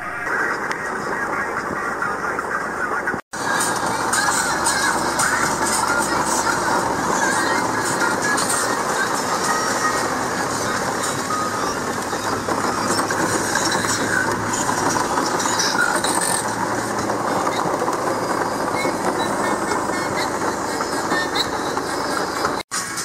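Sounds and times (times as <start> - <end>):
car engine and road noise: 0.0 - 23.0
rain ticking on windscreen: 0.3 - 22.6.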